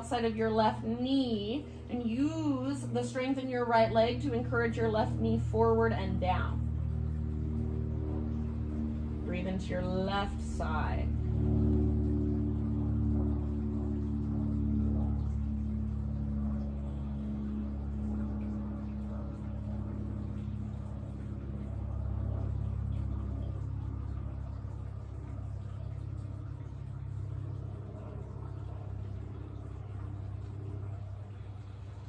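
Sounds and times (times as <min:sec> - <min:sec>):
low steady rumble: 0:00.0 - 0:32.0
soft sustained music tones: 0:00.0 - 0:32.0.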